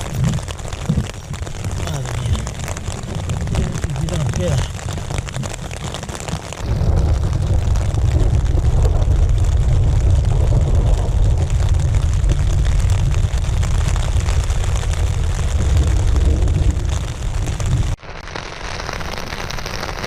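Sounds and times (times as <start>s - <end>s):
low thunder rumble: 0.0s - 18.0s
rain hissing: 0.0s - 20.0s.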